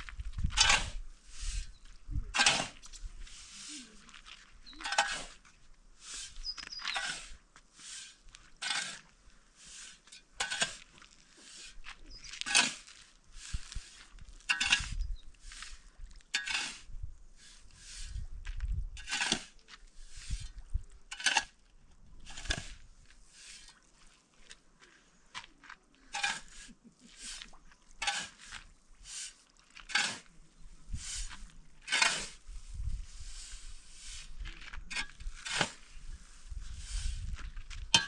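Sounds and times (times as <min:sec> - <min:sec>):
metal shovel scraping sand: 0:00.0 - 0:04.0, 0:04.7 - 0:18.3, 0:19.0 - 0:21.6, 0:22.2 - 0:23.9, 0:26.0 - 0:38.0.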